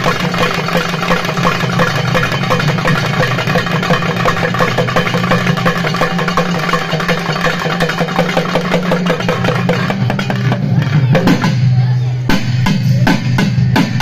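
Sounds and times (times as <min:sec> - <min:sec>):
fast drum roll: 0:00.0 - 0:11.6.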